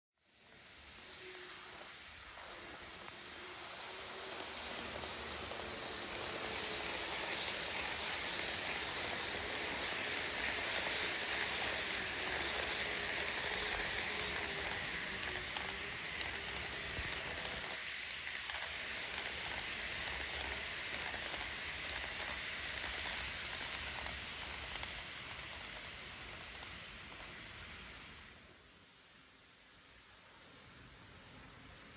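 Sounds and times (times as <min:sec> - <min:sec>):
model train wheels rushing: 0:00.5 - 0:28.5.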